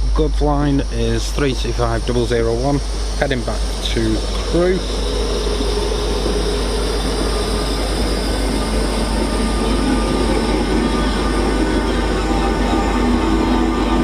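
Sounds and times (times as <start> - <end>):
electric train running: 0.0 - 14.0
faint hum: 0.0 - 14.0.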